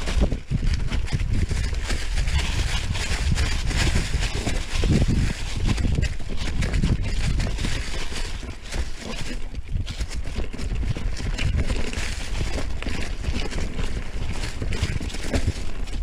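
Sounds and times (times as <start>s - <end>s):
bike rattling: 0.0s - 16.0s
tyres crunching over leaves and stones: 0.0s - 16.0s
wind rumbling on microphone: 0.0s - 16.0s.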